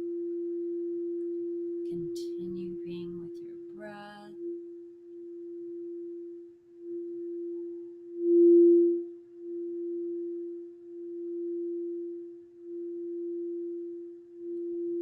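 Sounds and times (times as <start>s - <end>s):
singing bowl tone: 0.2s - 15.0s.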